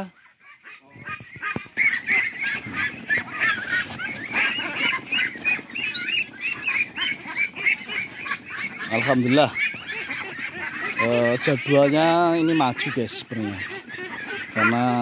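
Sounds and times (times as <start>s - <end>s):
flock of ducks calling: 0.0s - 15.0s.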